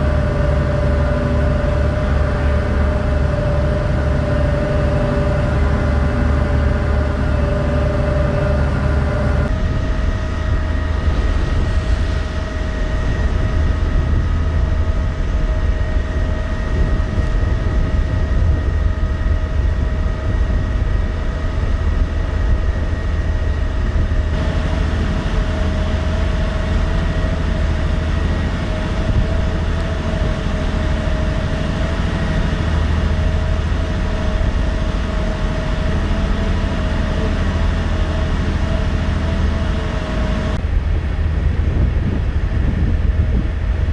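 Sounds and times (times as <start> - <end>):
ship engine deep rumble: 0.0 - 43.9
steady machinery whine: 0.0 - 43.9.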